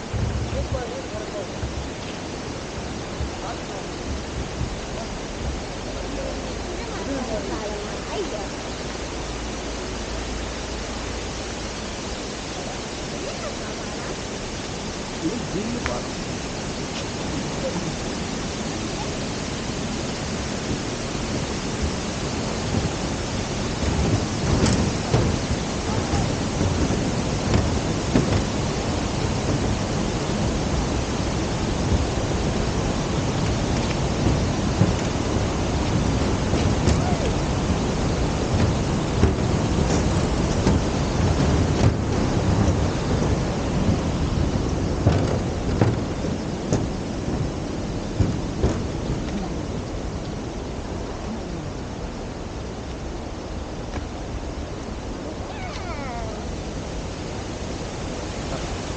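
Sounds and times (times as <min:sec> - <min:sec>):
river water over rapids: 0:00.0 - 0:58.9
wind buffeting microphone: 0:00.0 - 0:58.9.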